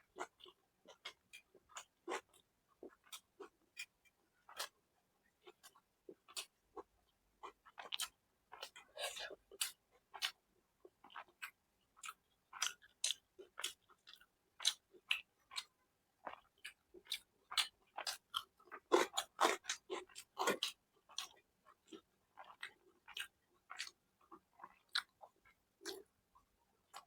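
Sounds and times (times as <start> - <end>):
person chewing with wet smacks: 0.0 - 4.8, 5.4 - 27.0.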